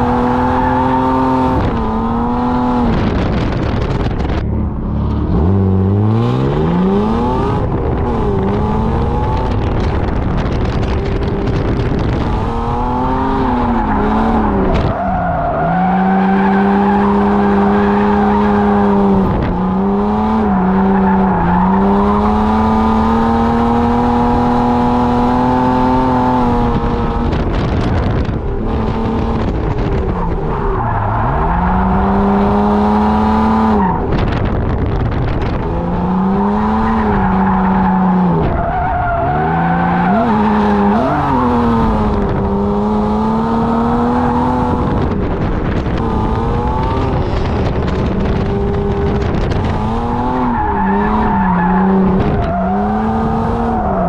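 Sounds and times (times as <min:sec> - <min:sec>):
car engine revving hard: 0:00.0 - 0:54.0
tyres skidding and squealing: 0:02.9 - 0:28.7, 0:29.4 - 0:34.5, 0:35.3 - 0:43.0, 0:43.6 - 0:54.0.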